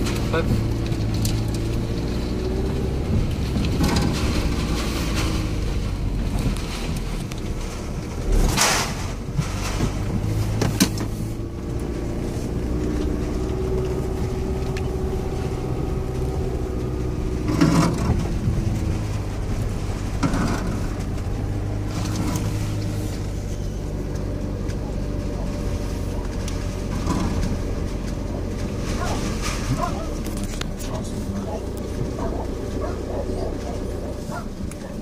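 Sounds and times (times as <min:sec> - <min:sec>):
car engine running: 0:00.0 - 0:35.0
knocks and rattles: 0:00.0 - 0:35.0
tyre noise on dirt: 0:00.0 - 0:35.0.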